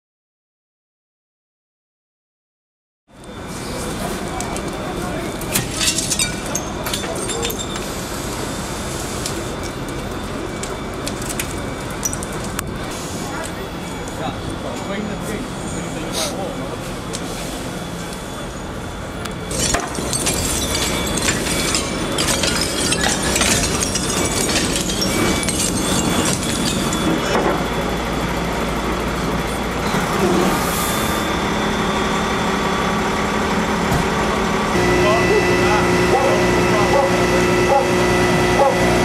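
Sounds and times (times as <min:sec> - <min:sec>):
fire truck engines running: 0:03.2 - 0:39.0.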